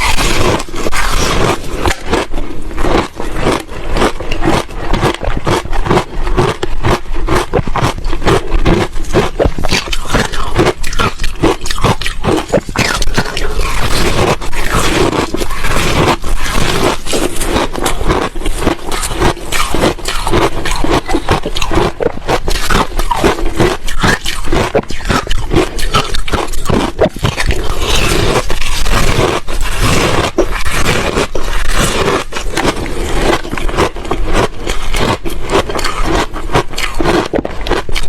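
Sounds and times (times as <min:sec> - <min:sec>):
ice cubes crunching while chewed: 0:00.0 - 0:38.0.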